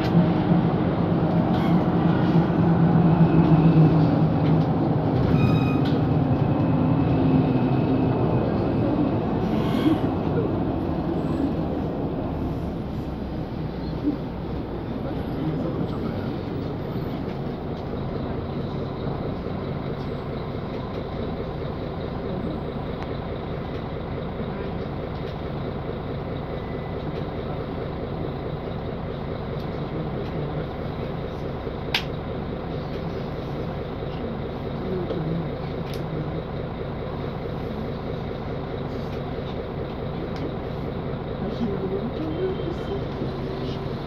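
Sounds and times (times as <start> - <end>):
bus diesel engine running: 0.0 - 44.0.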